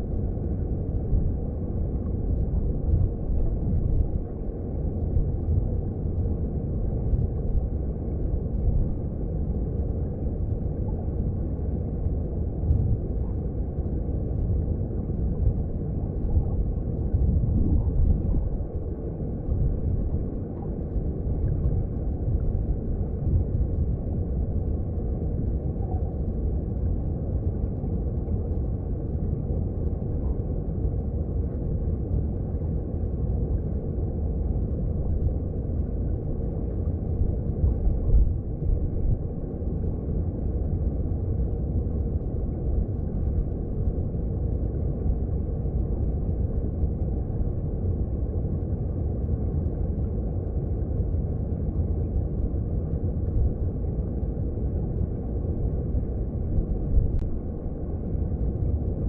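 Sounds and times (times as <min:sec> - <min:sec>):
underwater stream rumble: 0:00.0 - 0:59.0.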